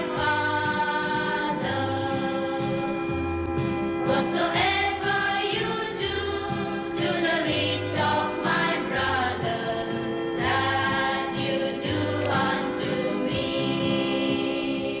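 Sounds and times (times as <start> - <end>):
choir singing a hymn: 0.0 - 2.8, 4.0 - 15.0
instrumental accompaniment: 0.0 - 15.0.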